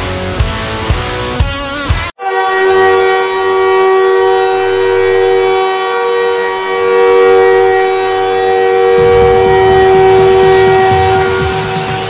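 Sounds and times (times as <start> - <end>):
hockey goal horn chord: 2.2 - 12.0.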